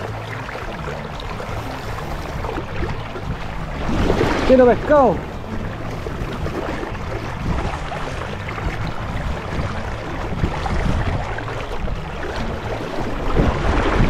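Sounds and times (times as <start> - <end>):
river rushing over stones: 0.0 - 14.0
wind buffeting microphone: 0.0 - 14.0.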